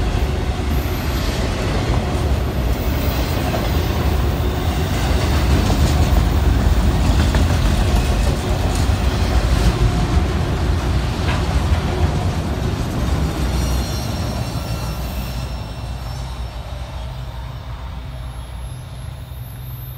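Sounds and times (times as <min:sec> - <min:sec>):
rail clacks: 0:00.0 - 0:16.8
freight train wheels rumbling: 0:00.0 - 0:19.9.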